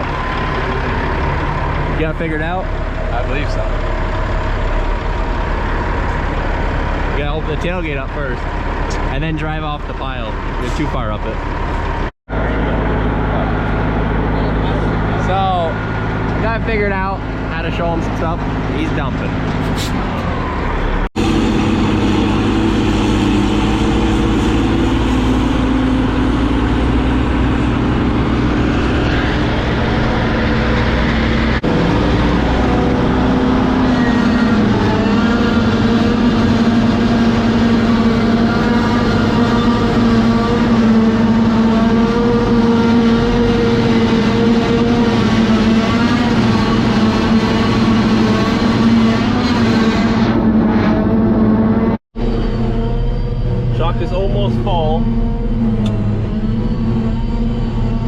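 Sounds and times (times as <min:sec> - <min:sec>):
farm vehicle engine running: 0:00.0 - 0:58.0.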